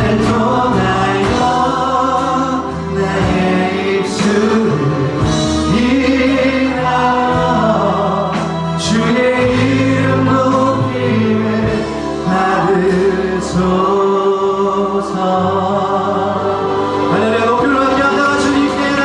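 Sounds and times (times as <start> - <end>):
group singing worship song: 0.0 - 19.0
instrumental accompaniment with bass: 0.0 - 19.0.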